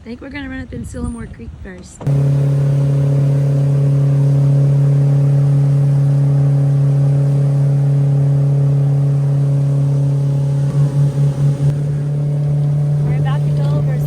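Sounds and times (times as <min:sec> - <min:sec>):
motorboat engine drone: 0:02.0 - 0:14.0.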